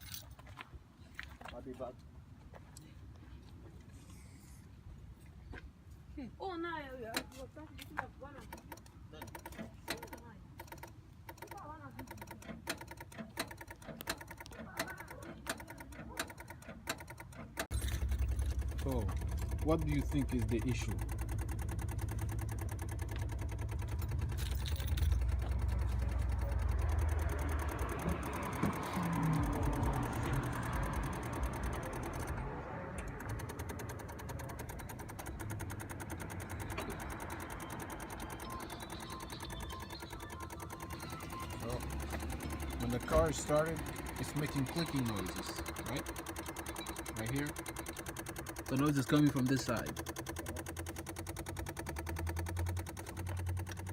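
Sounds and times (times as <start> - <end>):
rapid clicking in engine bay: 7.0 - 53.9
fast electrical ticking: 8.3 - 53.9.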